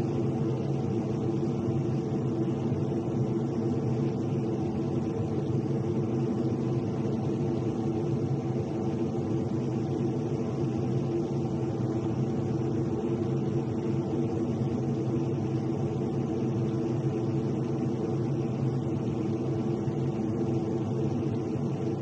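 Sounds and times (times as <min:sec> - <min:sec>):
jet engine drone from cockpit: 0:00.0 - 0:22.0.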